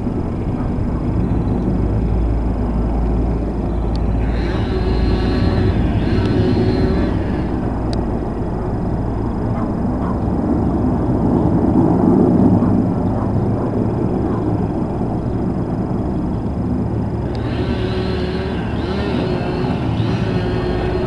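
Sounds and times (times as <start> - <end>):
helicopter rotor and turbine: 0.0 - 21.0
high-pitched whine: 0.0 - 21.0.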